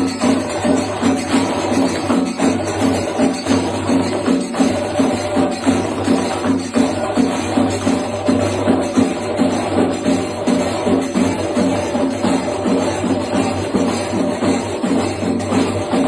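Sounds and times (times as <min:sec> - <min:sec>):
pot drums beating steady rhythm: 0:00.0 - 0:16.0
small hand cymbals ringing: 0:00.0 - 0:16.0.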